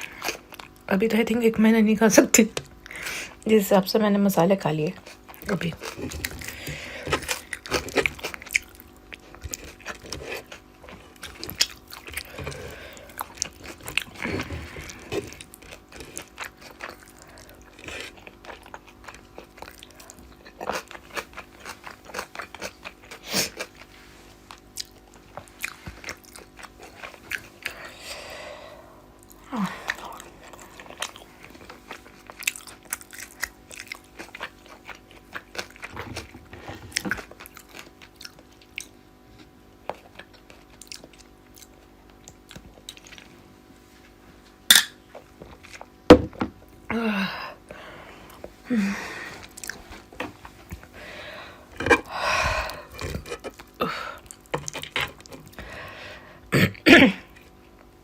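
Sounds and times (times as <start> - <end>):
person chewing and crunching: 0.0 - 0.9, 4.8 - 46.9, 47.6 - 58.0.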